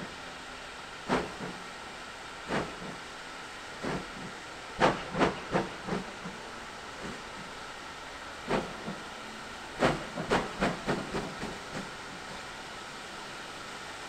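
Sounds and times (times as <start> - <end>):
steady hiss of steam: 0.0 - 14.0
steam locomotive exhaust beats: 0.0 - 14.0.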